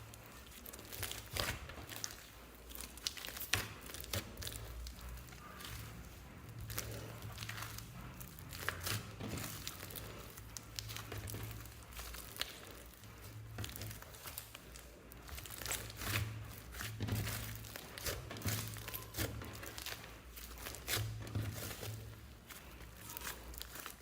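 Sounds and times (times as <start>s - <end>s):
slime squished by hand: 0.0s - 24.0s.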